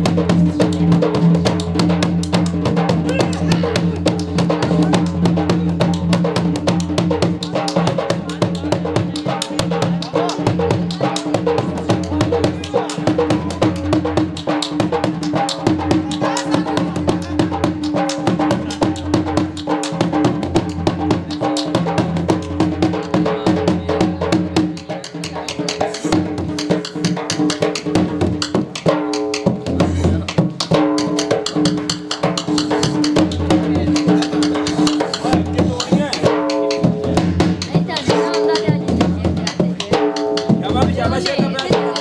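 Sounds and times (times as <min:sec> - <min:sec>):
fast dhol drumming: 0:00.0 - 0:42.0.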